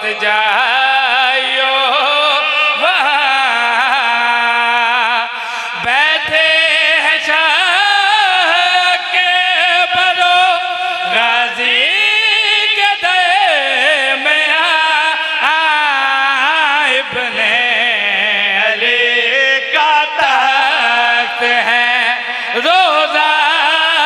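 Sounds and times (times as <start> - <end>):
man chanting a melody: 0.0 - 24.0.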